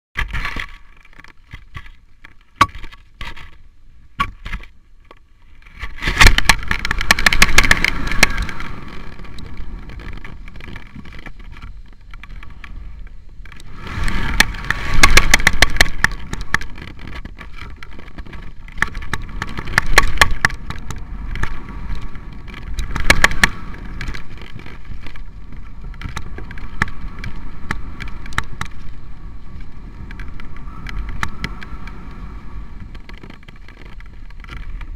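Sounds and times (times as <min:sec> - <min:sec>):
clicks and rattles of rig: 0:00.2 - 0:03.6, 0:04.2 - 0:34.9
wind buffeting camera: 0:00.2 - 0:34.9.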